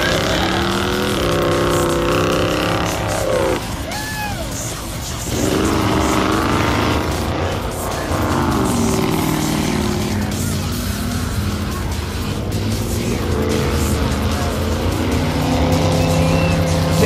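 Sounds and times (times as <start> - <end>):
music playing: 0.0 - 17.0
truck engine revving: 0.0 - 17.0.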